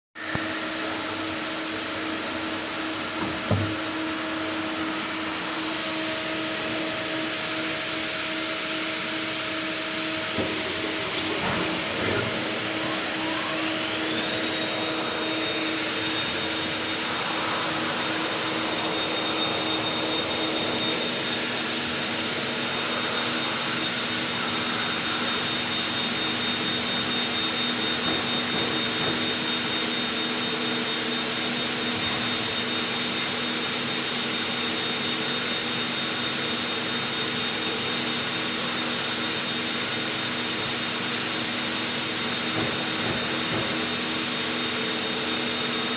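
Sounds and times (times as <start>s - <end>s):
lathe high whine: 0.2s - 45.9s
machine hum and hiss: 0.2s - 45.9s.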